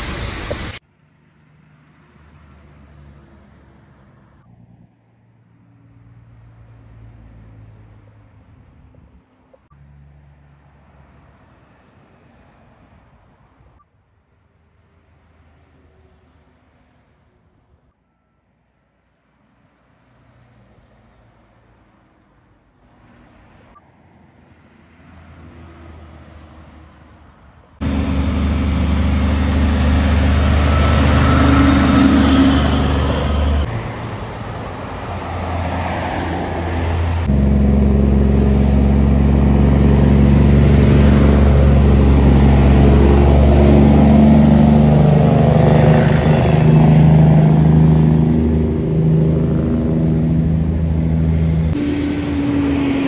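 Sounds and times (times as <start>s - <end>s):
truck diesel engines passing: 0.0s - 53.0s.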